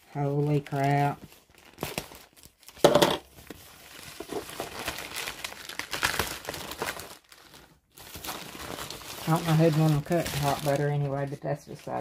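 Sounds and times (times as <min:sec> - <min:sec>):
plastic mailer crinkling: 0:00.2 - 0:12.0.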